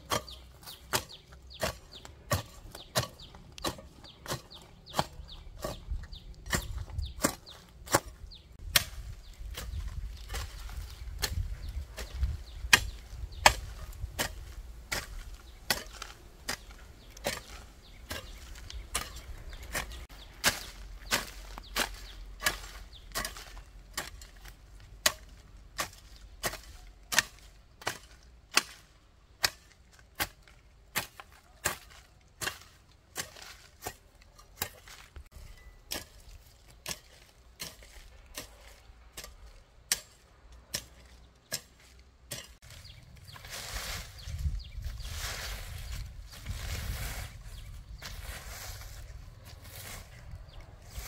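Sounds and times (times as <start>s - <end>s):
hoe chopping into soil: 0.0s - 35.1s, 35.9s - 51.0s.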